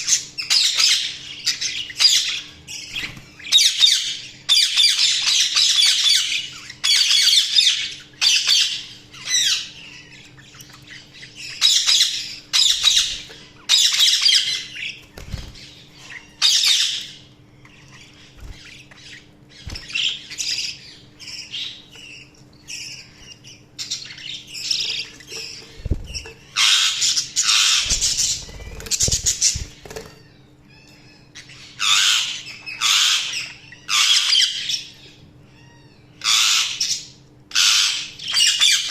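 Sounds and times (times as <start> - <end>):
budgerigars chattering and squawking: 0.0 - 35.2, 36.2 - 38.9.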